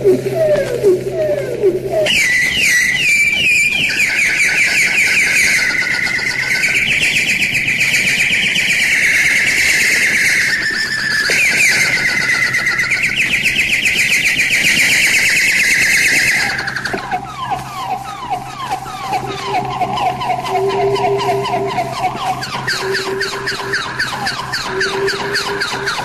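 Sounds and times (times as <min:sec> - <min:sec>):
high trill of bird chirps: 0:00.0 - 0:26.0.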